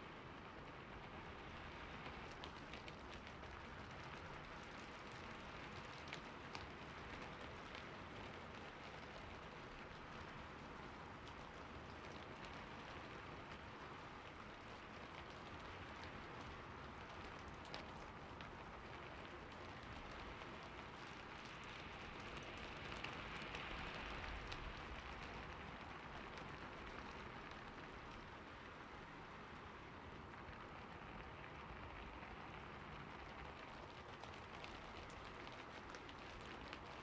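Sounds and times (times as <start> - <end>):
rain falling on a roof: 0.0 - 37.0.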